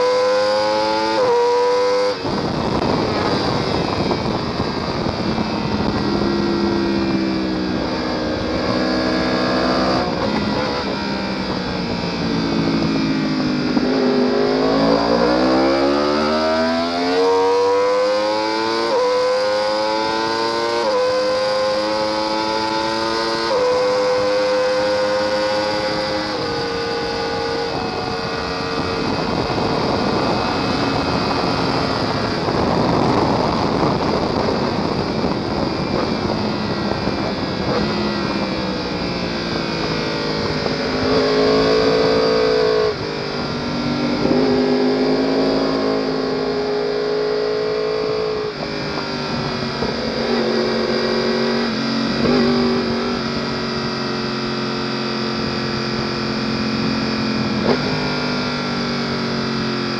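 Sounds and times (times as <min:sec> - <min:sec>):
wind rush: 0:00.0 - 0:59.7
motorcycle engine revving: 0:00.0 - 0:59.9.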